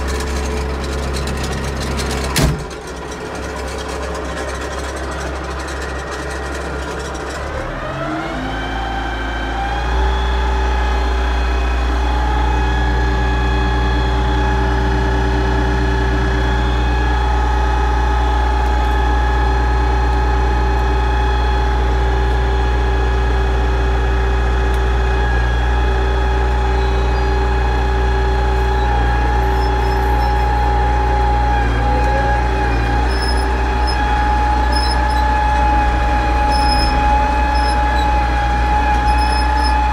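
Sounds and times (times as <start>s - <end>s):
diesel tractor engine revving: 0.0s - 39.9s.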